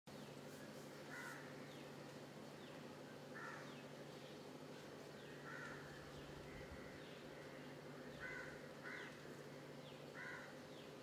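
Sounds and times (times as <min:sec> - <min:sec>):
faint bird calls: 0:00.1 - 0:11.0
steady low hum: 0:00.1 - 0:11.0.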